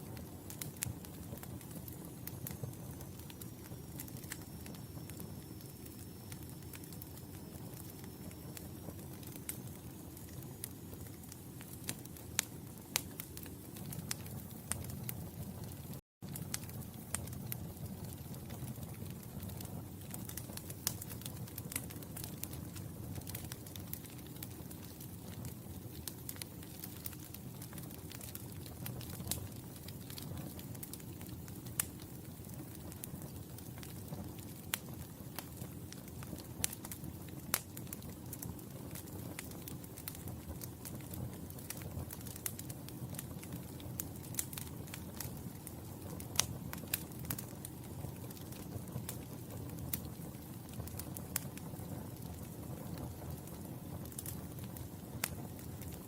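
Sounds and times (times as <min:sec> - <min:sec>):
low rumble of flame: 0:00.0 - 0:56.0
wood fire crackling: 0:00.0 - 0:56.0.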